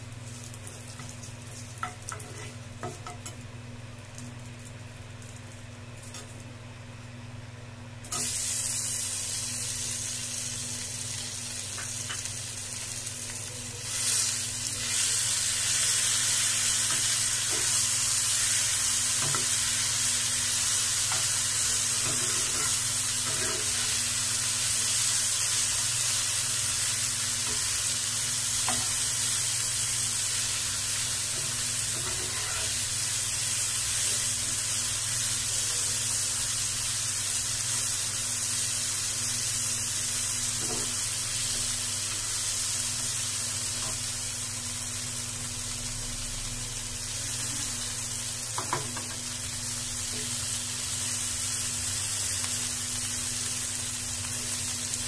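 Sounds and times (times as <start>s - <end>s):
food sizzling in hot oil: 0.0s - 6.4s, 8.0s - 55.0s.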